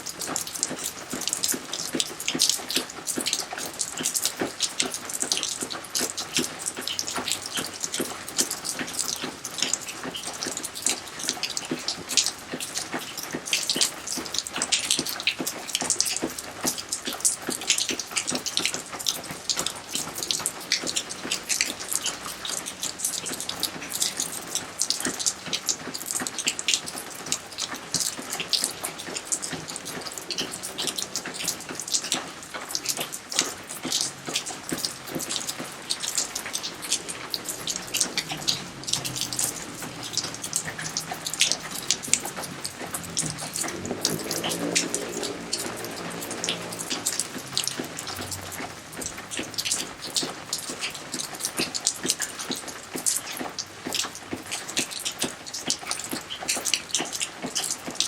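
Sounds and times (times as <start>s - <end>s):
fountain splashing into pond: 0.0s - 58.0s
rain patter: 0.0s - 58.0s.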